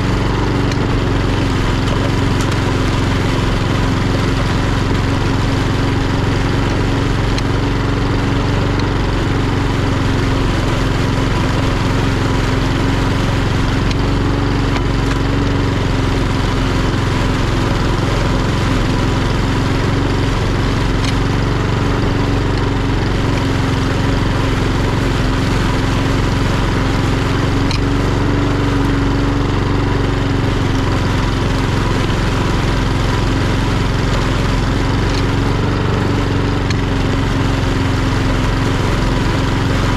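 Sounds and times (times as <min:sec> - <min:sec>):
lawnmower mowing grass: 0:00.0 - 0:39.9.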